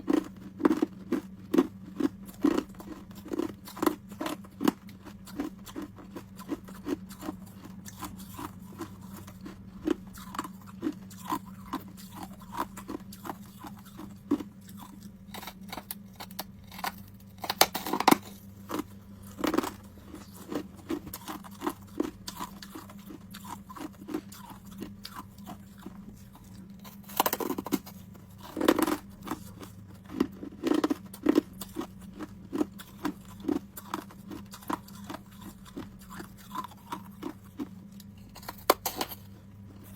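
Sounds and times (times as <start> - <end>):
ice cubes being chewed: 0.0 - 39.9
steady low hum: 0.0 - 39.9.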